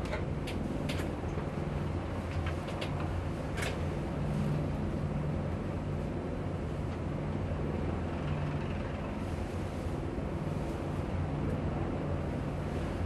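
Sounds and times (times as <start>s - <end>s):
helicopter rotor and engine rumble: 0.0s - 13.0s.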